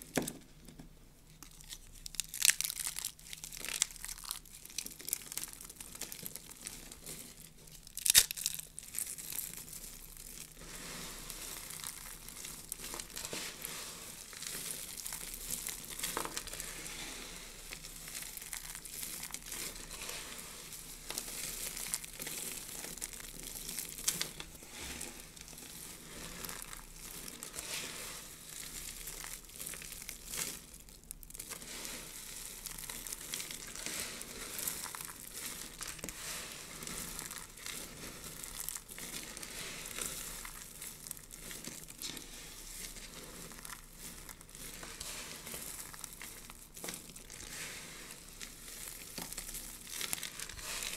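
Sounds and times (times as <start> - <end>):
soap shavings crunching: 1.3 - 50.9.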